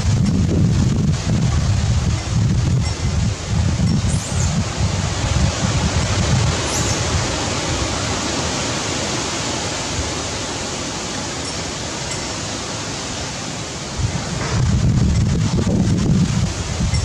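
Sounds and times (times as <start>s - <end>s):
wind rushing: 0.0s - 10.6s, 13.0s - 17.0s.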